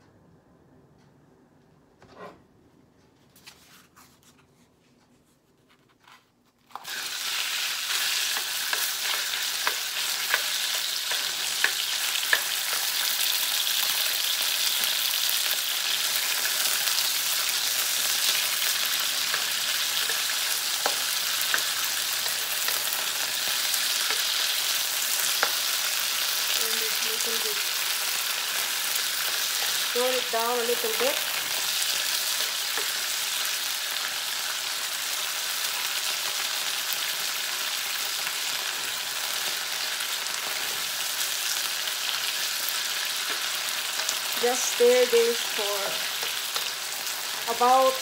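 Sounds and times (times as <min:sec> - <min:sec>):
meat sizzling in hot oil: 0:06.8 - 0:48.0.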